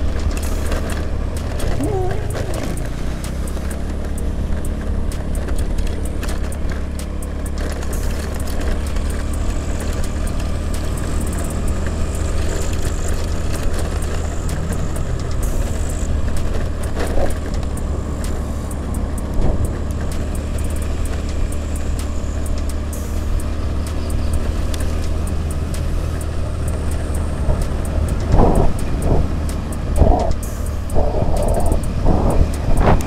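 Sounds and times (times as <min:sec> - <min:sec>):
motorbike engine and road noise: 0:00.0 - 0:33.0.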